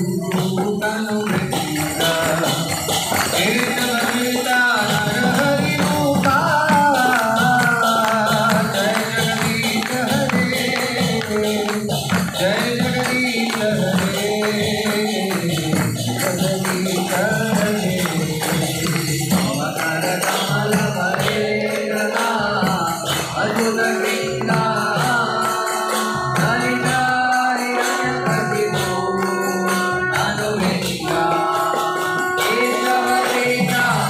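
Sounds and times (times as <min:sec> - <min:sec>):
jingling metallic percussion: 0:00.0 - 0:34.0
voices singing devotional song: 0:00.0 - 0:34.0.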